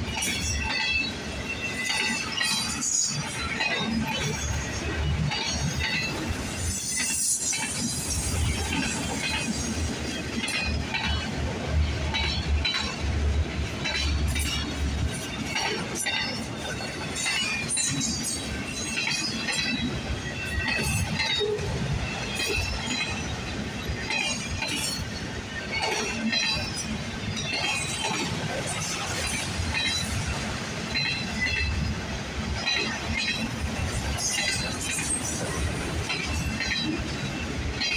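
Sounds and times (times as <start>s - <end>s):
train cars clanking and rattling: 0.0s - 37.9s
train wheels rumbling on rail: 0.0s - 37.9s.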